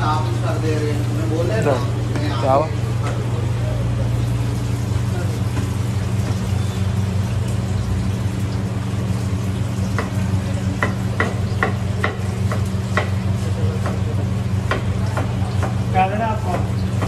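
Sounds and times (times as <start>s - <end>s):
frying sizzle: 0.0s - 17.0s
low machine hum: 0.0s - 17.0s.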